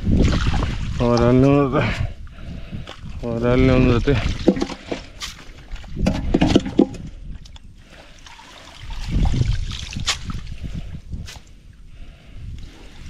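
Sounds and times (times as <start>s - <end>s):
water sloshing and trickling: 0.0s - 11.9s, 12.6s - 13.0s.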